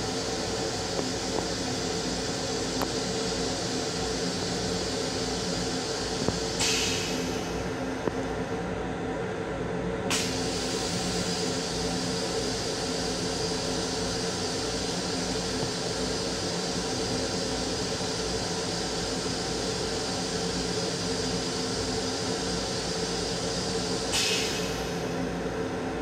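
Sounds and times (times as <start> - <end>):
electric railcar running rumble: 0.0 - 26.0.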